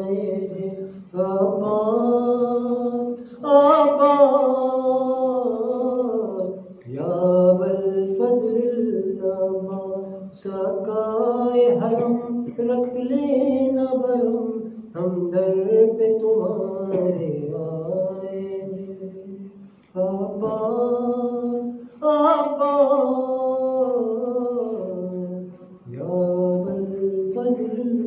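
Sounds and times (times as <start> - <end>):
man chanting unaccompanied: 0.0 - 28.0.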